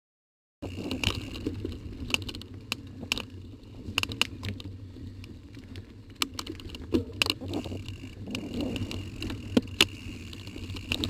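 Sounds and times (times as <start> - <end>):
bike clicks and rattles: 0.6 - 11.0.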